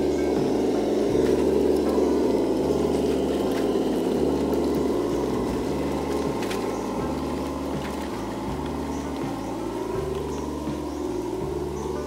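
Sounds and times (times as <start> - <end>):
toy truck motor humming: 0.0 - 12.0.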